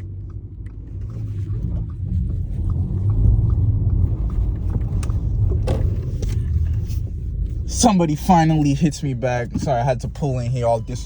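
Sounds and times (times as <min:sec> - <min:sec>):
car engine and exhaust rumble: 0:00.0 - 0:11.0.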